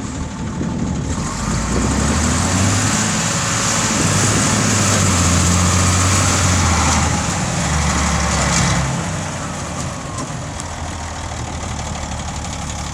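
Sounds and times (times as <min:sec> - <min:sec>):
dump truck diesel engine: 0:00.0 - 0:12.9.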